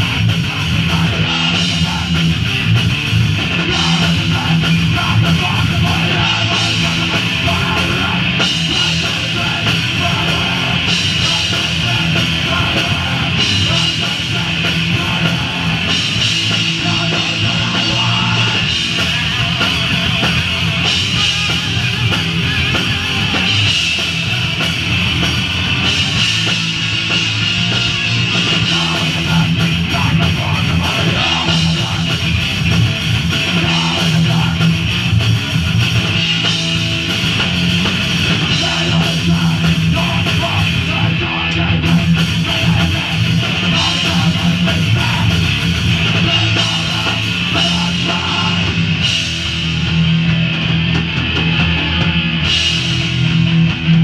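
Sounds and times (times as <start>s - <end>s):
punk band playing loud and fast: 0.0s - 54.0s.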